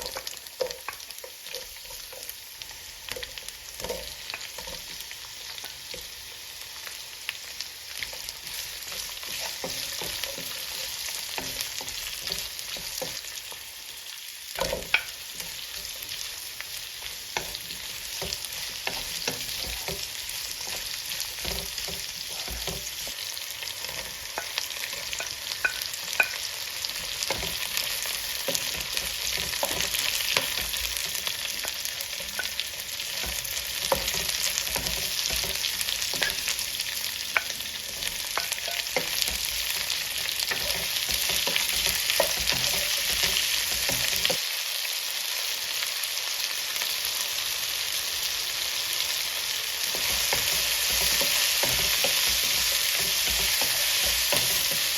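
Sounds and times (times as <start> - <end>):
food sizzling in oil: 0.0 - 54.9.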